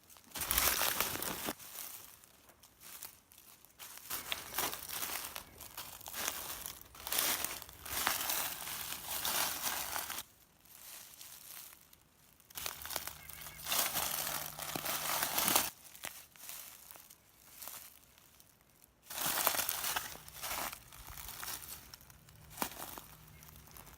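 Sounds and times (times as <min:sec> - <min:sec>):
footsteps crunching dry leaves: 0:00.0 - 0:23.9.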